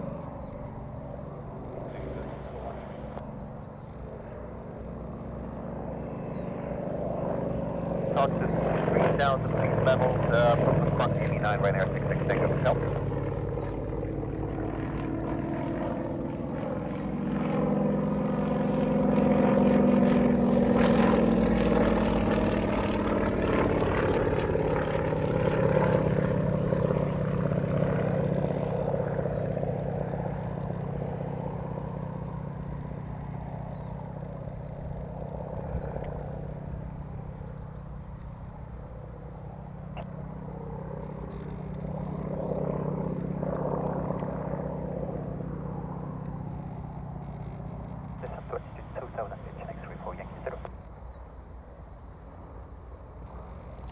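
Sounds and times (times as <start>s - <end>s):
propeller aircraft passing: 0.0s - 53.9s.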